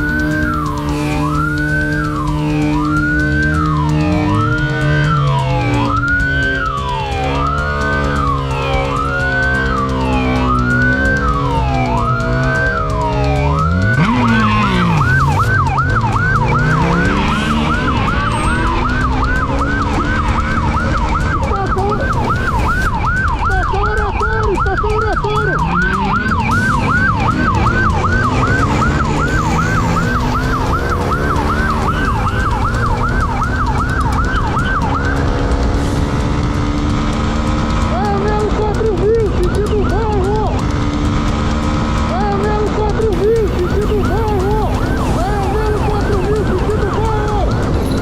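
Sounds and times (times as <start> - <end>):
low road noise: 0.0 - 48.0
motorcycle engine revving: 0.0 - 48.0
police siren yelp: 0.0 - 48.0.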